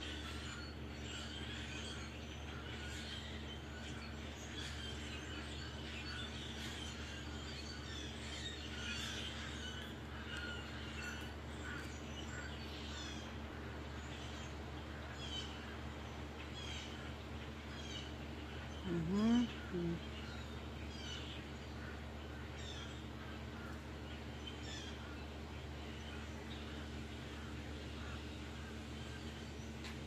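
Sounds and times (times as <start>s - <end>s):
flock of birds chirping: 0.0s - 30.0s
steady low hum: 0.0s - 30.0s.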